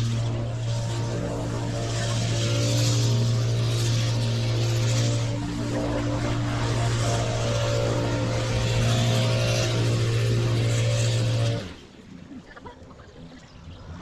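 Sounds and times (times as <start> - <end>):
small petrol engine running: 0.0 - 11.8.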